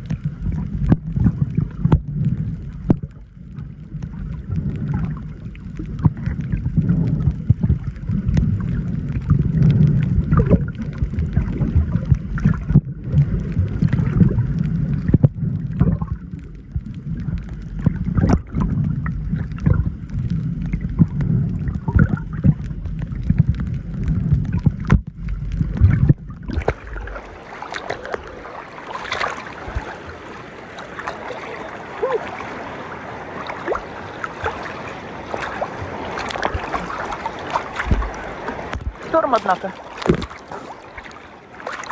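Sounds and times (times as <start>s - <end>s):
underwater clicks: 0.0s - 30.1s, 33.4s - 41.9s
small waves lapping and splashing: 0.0s - 41.9s
underwater rumble: 0.0s - 41.9s.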